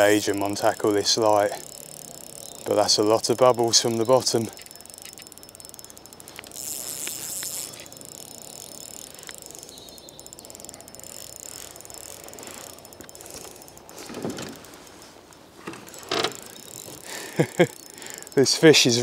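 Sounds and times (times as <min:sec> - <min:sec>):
fishing reel drag clicking: 0:00.0 - 0:19.0.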